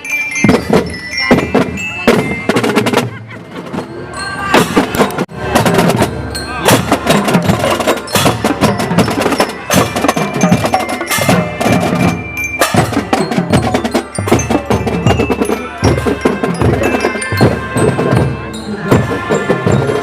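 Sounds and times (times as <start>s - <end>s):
marching drum band playing: 0.4s - 20.0s.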